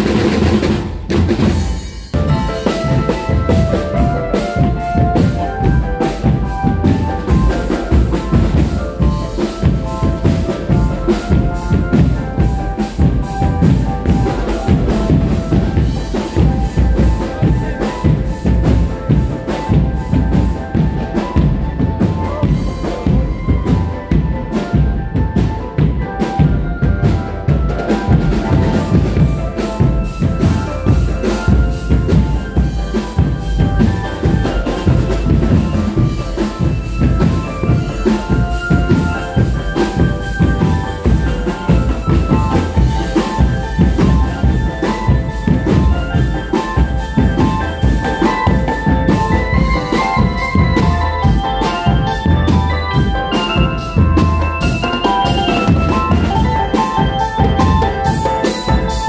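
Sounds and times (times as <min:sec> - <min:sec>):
cymbals: 0:00.0 - 0:59.0
drums beating fast: 0:00.0 - 0:59.0
electric keyboard melody: 0:00.0 - 0:59.0.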